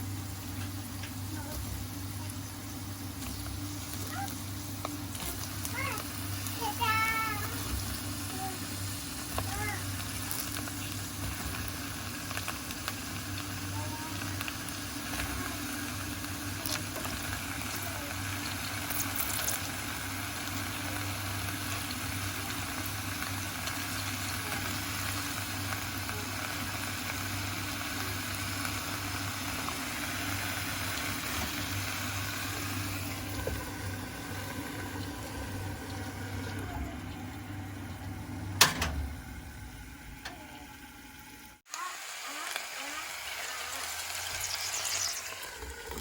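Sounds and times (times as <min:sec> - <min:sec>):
food frying in a pan: 0:00.0 - 0:46.0.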